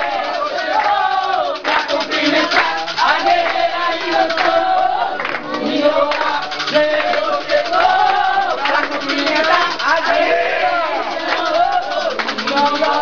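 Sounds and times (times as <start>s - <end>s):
crowd noise: 0.0s - 13.0s
group singing a chant: 0.0s - 13.0s
rhythmic hand clapping: 0.0s - 13.0s.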